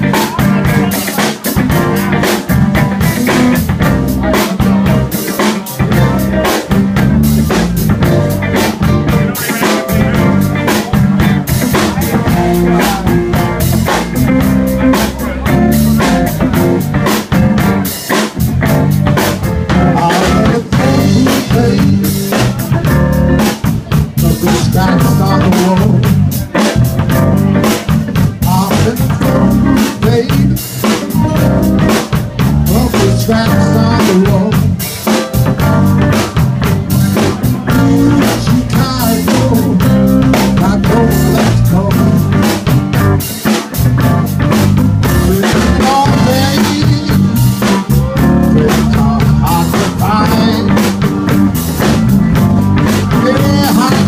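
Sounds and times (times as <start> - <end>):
blues band playing: 0.0 - 54.0
steady drum beat: 0.0 - 54.0.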